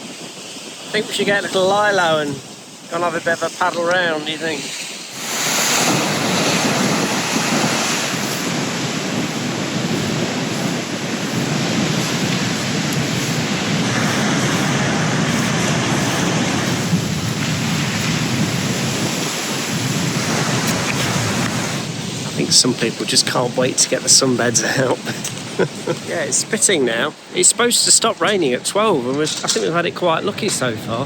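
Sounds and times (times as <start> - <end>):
waves crashing: 0.0 - 31.0
wind buffeting microphone: 0.0 - 31.0.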